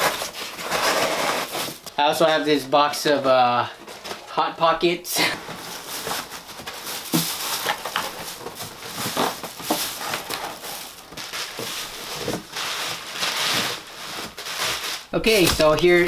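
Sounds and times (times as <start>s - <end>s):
plastic bags crinkling: 0.0s - 2.4s, 5.2s - 16.0s.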